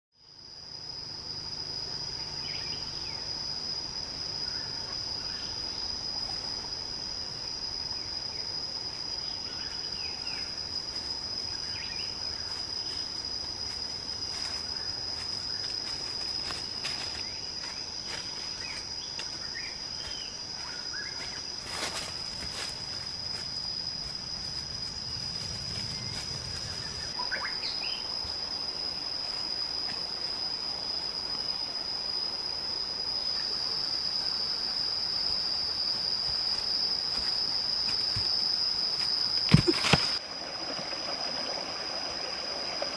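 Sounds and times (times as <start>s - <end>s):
insects droning: 0.2s - 42.9s.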